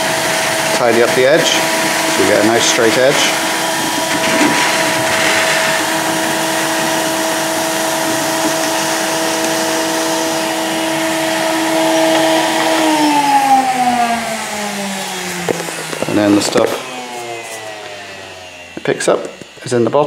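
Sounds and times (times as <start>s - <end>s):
vacuum cleaner whine: 0.0s - 20.0s.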